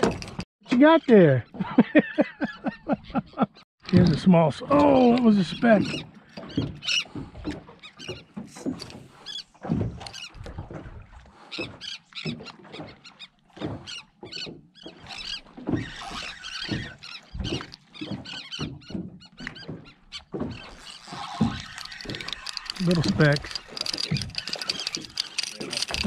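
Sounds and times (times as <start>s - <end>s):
waves slapping against boat hull: 3.8s - 26.0s.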